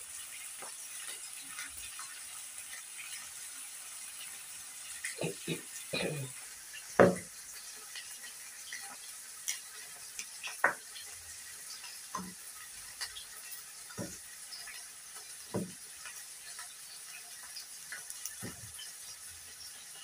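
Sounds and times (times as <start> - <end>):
fish frying in oil: 0.0 - 20.0.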